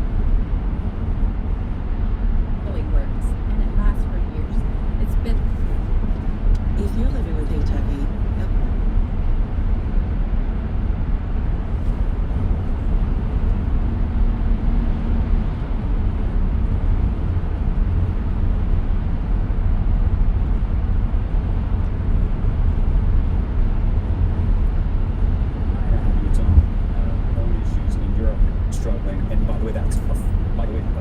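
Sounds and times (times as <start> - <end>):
road and tyre noise in car: 0.0 - 31.0.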